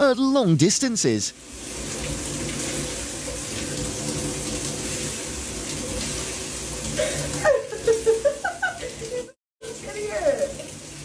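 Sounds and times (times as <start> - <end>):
water running from a tap: 0.8 - 11.0.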